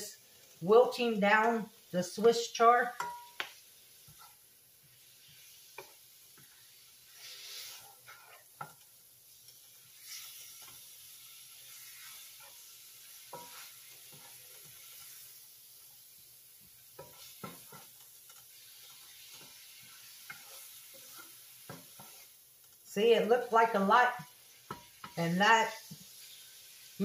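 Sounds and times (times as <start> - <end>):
greens sizzling in a skillet: 0.0 - 27.0
spatula scraping a pan: 2.2 - 22.4, 24.1 - 26.9.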